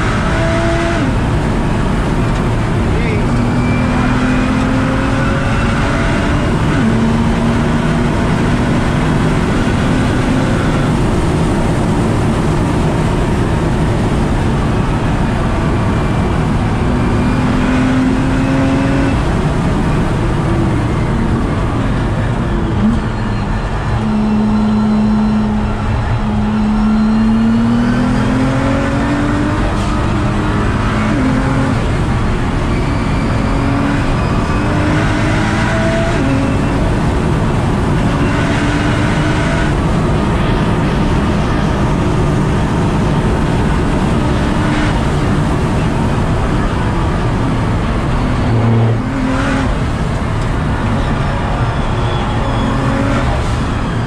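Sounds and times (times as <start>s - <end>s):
car engine revving at speed: 0.0s - 54.0s
road and wind noise: 0.0s - 54.0s.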